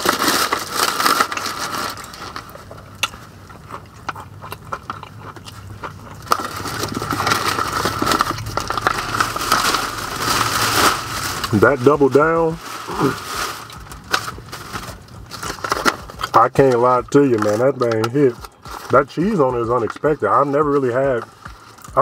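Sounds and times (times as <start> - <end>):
chewing crunchy fried chicken: 0.0 - 9.7, 12.9 - 22.0.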